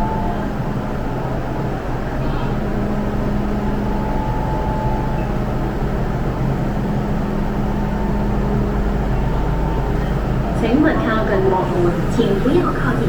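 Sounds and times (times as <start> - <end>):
train humming and rumbling: 0.0 - 13.0.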